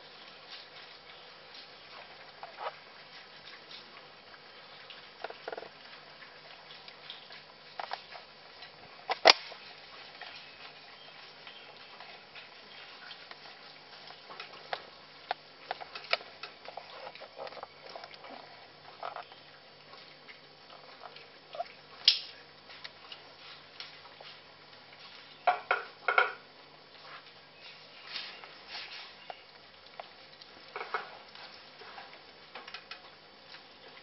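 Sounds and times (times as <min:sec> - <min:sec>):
puppies chewing and licking: 0:00.0 - 0:34.0.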